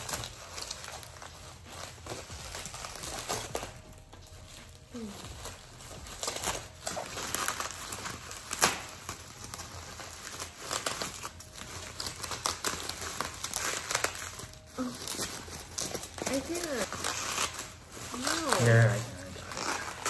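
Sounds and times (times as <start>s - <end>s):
bubble wrap crinkling: 0.0s - 20.0s.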